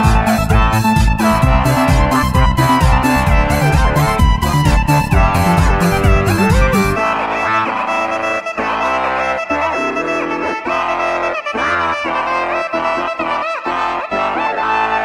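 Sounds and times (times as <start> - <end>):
brass-led tune with sliding notes: 0.0 - 15.0.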